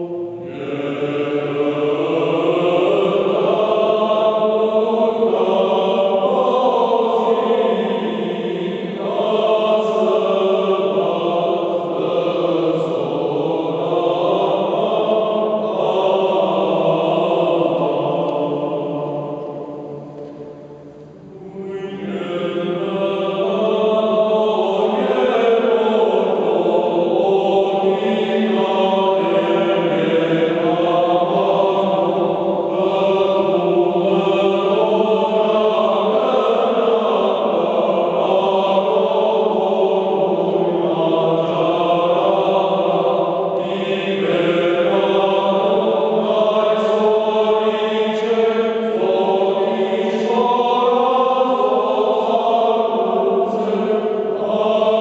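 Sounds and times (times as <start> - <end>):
male choir singing hymns: 0.0 - 55.0.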